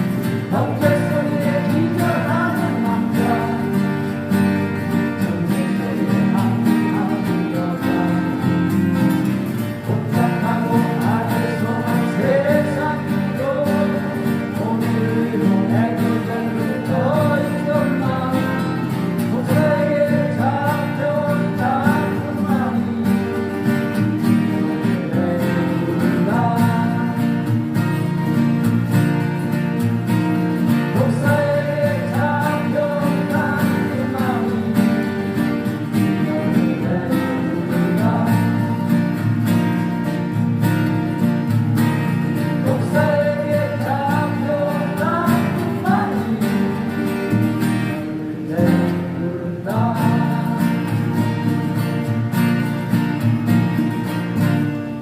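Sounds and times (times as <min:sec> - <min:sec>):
person singing: 0:00.0 - 0:27.7, 0:30.8 - 0:39.5, 0:42.1 - 0:52.0
acoustic guitars strummed: 0:00.0 - 0:55.0.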